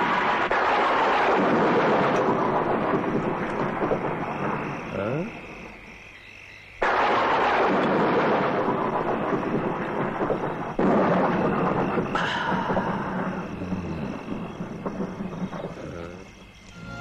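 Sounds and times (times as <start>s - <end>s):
thunder crash: 0.0s - 5.8s, 6.8s - 17.0s
storm noise: 0.0s - 6.2s, 6.8s - 17.0s.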